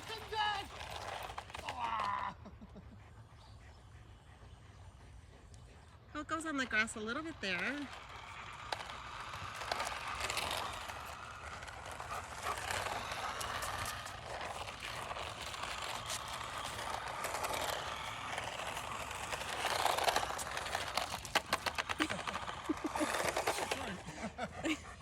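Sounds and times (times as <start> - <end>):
wheels moving through grass: 0.0 - 2.3, 3.2 - 25.0
toy car electric motor running: 0.0 - 25.0.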